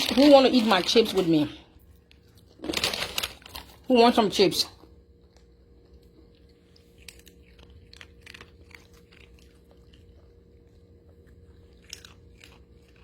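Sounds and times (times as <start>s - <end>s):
dog crunching chips: 0.0s - 4.8s, 5.7s - 13.0s.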